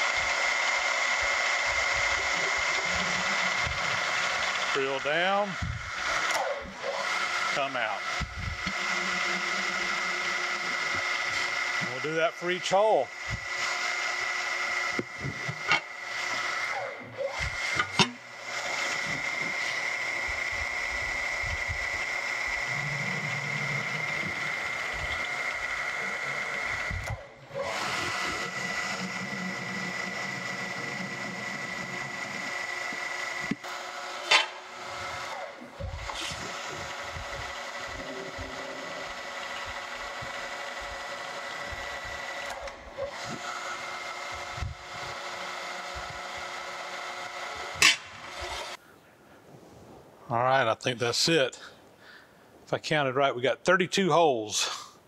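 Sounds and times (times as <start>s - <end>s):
milling machine spindle whine: 0.0s - 48.8s.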